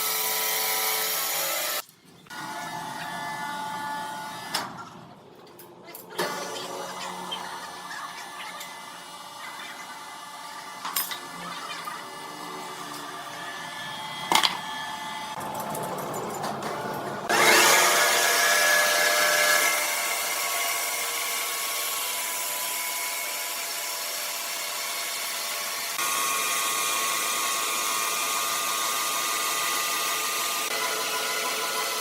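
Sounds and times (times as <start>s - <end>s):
sawmill saw cutting wood: 0.0s - 4.9s, 6.2s - 15.4s, 17.0s - 32.0s.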